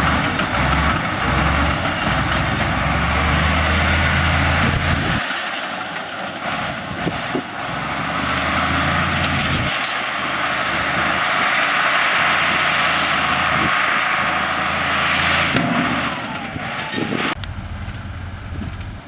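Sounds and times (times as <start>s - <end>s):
diesel machinery engine drone: 0.0s - 19.0s.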